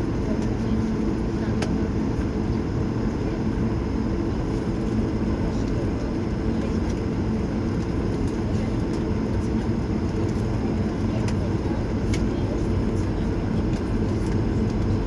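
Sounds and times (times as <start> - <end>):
aircraft cabin rumble taxiing: 0.0 - 15.0.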